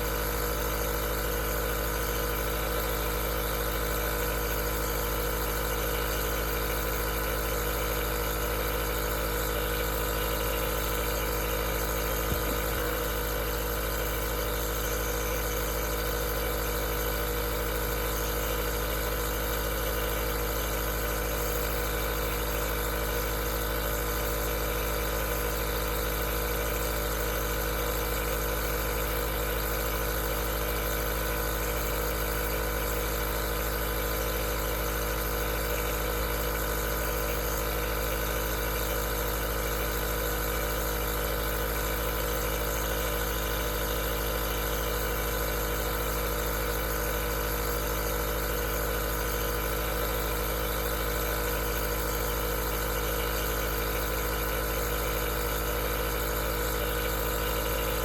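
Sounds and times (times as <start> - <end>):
nebulizer compressor humming: 0.0 - 58.0.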